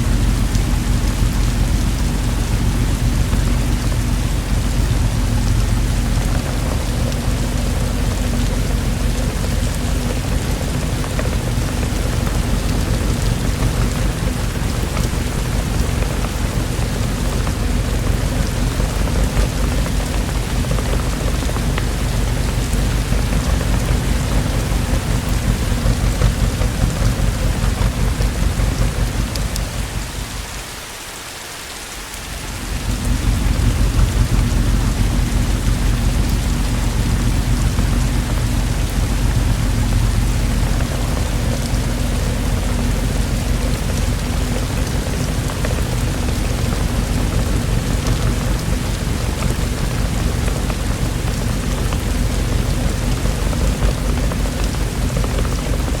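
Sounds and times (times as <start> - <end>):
low rumble: 0.0 - 30.8, 32.3 - 56.0
heavy rain falling: 0.0 - 56.0.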